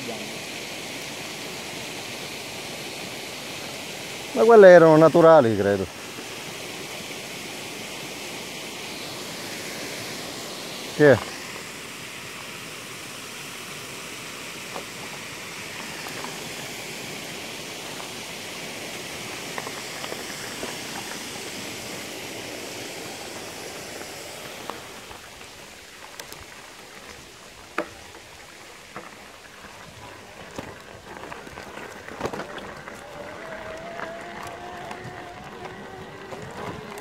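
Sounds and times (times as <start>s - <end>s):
bicycle tyres on gravel: 0.0s - 37.0s
water rushing in cascades: 0.0s - 37.0s.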